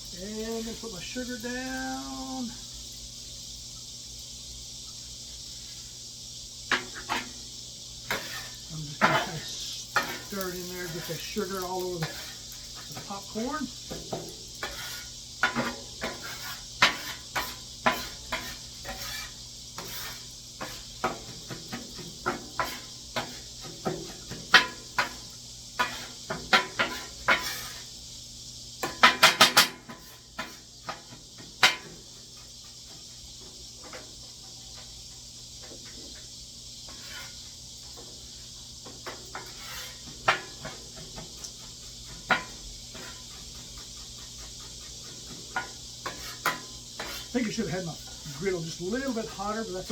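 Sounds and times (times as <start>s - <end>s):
oil sizzling: 0.0s - 49.9s
metal spatula scraping on griddle: 6.6s - 28.2s, 28.8s - 49.9s.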